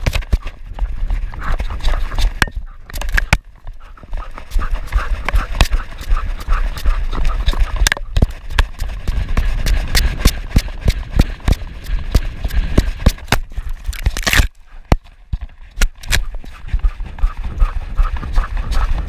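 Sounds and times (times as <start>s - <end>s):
wind rumble on microphone: 0.0s - 14.2s, 15.2s - 19.0s.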